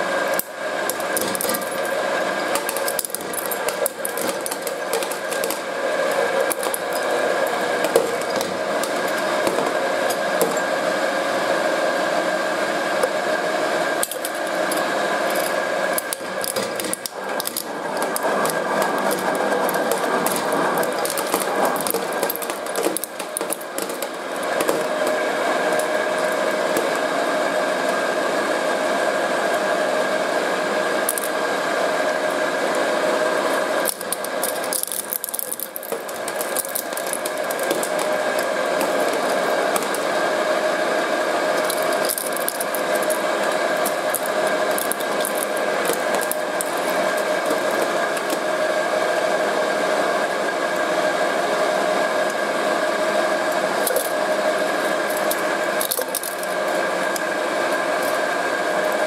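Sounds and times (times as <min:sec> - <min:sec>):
shredder motor whining: 0:00.0 - 0:59.0.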